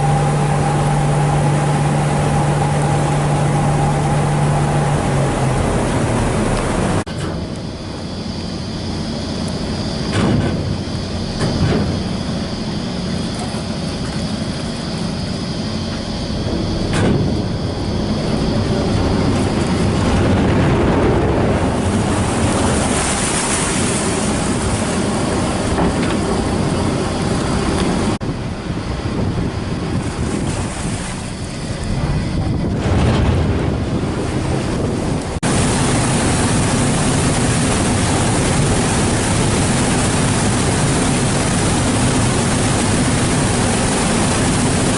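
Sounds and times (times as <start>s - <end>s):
ferry engine running: 0.0s - 44.9s
rush of wind and water: 0.0s - 44.9s.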